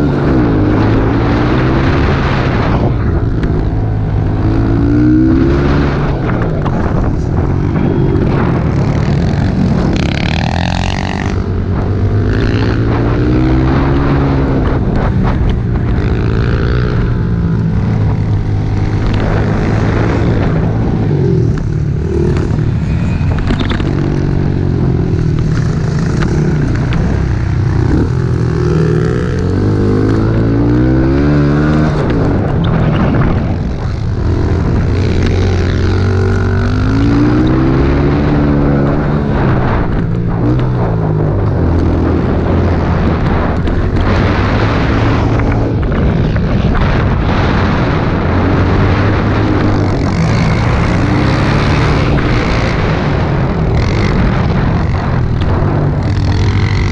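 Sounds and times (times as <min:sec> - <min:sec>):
pit bike engines revving: 0:00.0 - 0:56.9.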